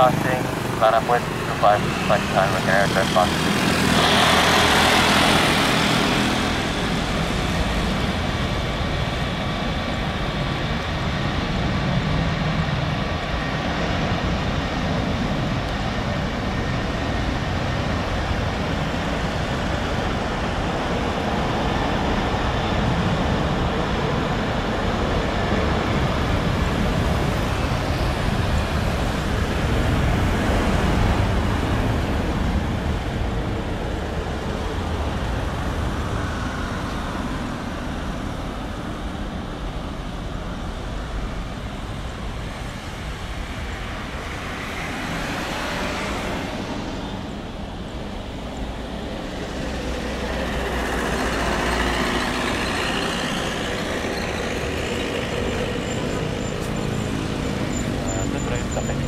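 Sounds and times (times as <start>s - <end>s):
jet airliner taking off: 0.0s - 59.0s.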